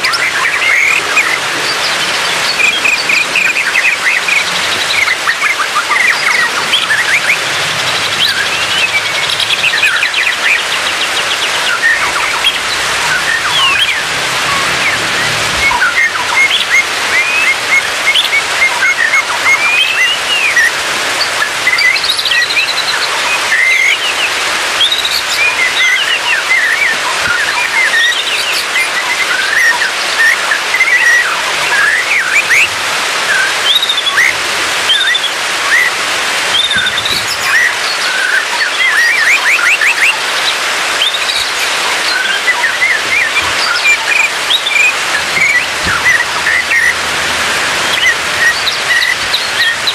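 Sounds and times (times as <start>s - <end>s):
hiss of falling water: 0.0s - 49.9s
songbird whistles and chirps: 0.0s - 49.9s.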